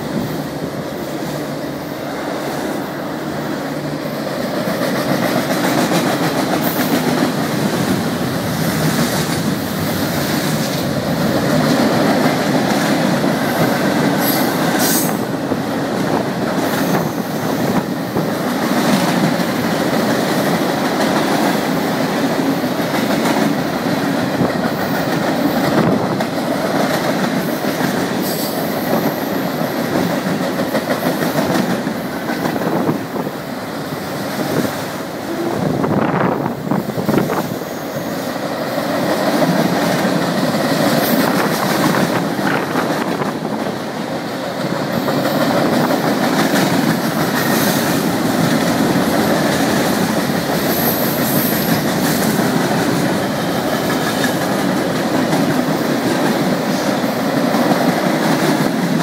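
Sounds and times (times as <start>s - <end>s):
train wheels clicking over rail joints: 2.3s - 59.0s.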